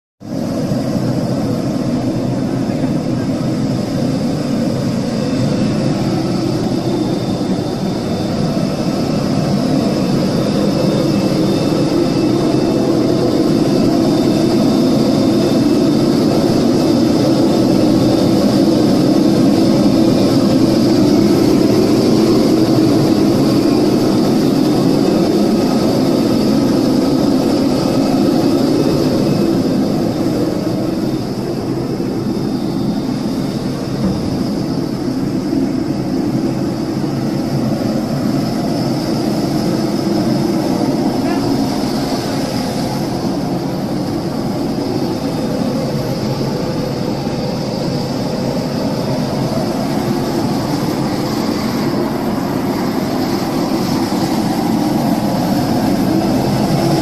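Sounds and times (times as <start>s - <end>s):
jet engine rush with high whine: 0.2s - 57.0s.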